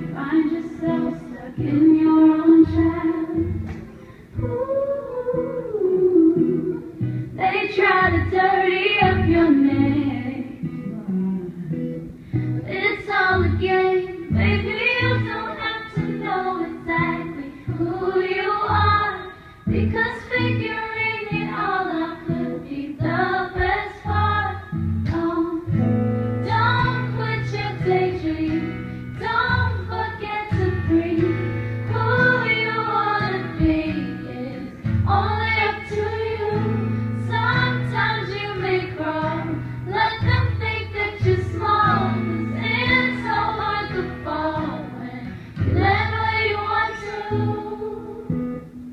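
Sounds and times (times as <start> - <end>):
woman singing into microphone: 0.0 - 48.8
acoustic guitar: 0.0 - 48.9.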